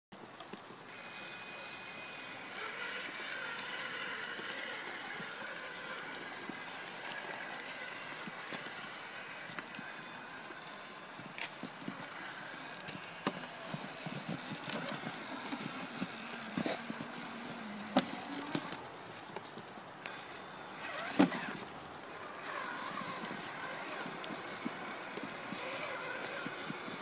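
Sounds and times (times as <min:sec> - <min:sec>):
tyres rustling through leaves: 0:00.2 - 0:27.0
rc truck motor whirring: 0:00.5 - 0:27.0.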